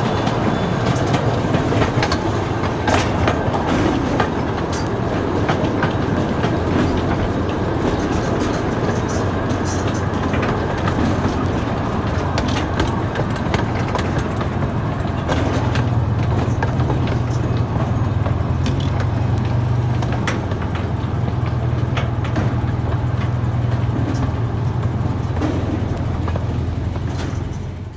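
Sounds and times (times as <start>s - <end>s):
miniature train engine drone: 0.0s - 27.9s
train cars clicking and rattling: 0.0s - 27.9s.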